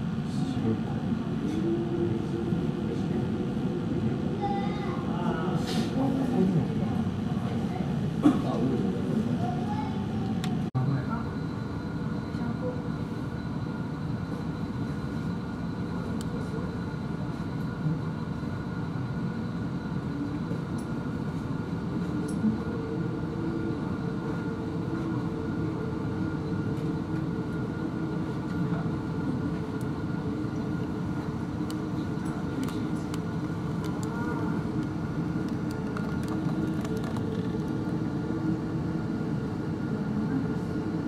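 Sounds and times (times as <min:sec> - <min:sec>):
machinery ventilation hum: 0:00.0 - 0:41.0.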